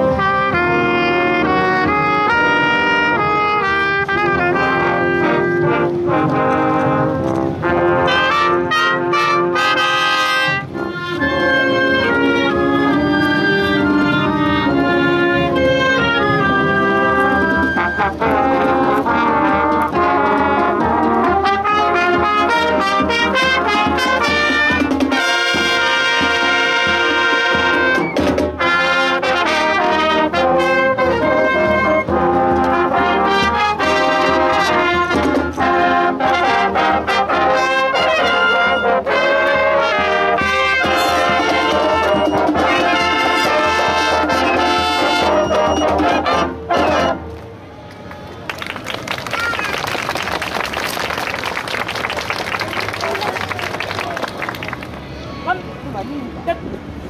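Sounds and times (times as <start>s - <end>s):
marching band playing: 0.0s - 55.8s.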